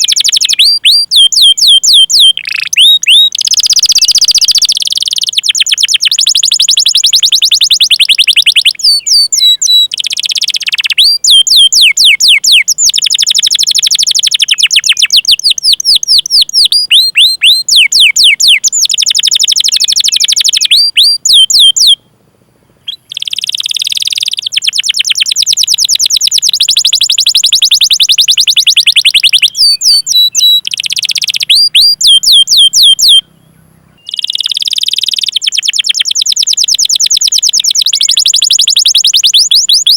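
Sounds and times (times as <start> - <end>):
canary singing trills: 0.0 - 22.1, 22.8 - 39.9.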